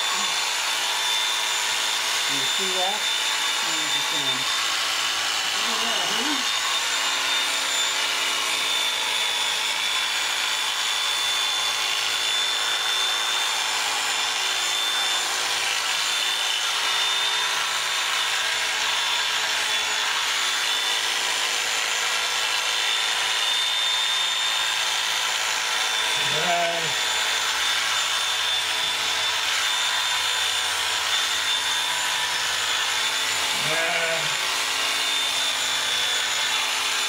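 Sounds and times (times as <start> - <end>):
electric shearing handpiece whining: 0.0 - 37.0.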